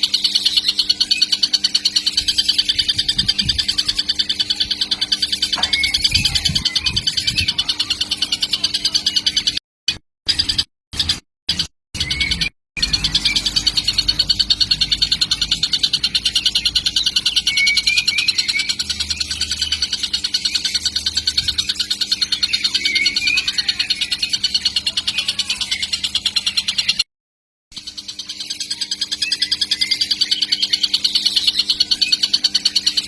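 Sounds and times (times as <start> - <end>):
kingfisher chick buzzing chatter: 0.0 - 9.6, 10.3 - 27.0, 27.8 - 33.0.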